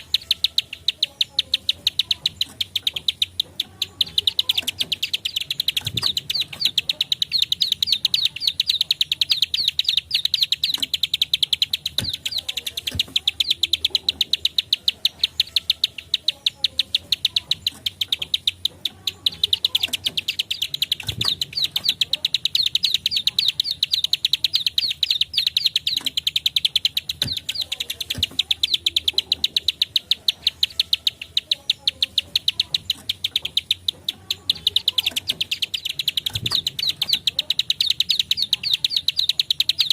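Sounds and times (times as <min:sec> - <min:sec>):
bird calling in dry clicks: 0:00.0 - 0:39.9.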